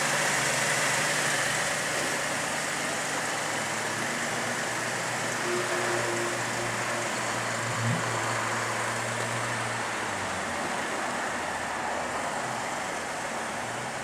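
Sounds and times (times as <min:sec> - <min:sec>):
car engine idling: 0:00.0 - 0:05.4, 0:06.4 - 0:14.0.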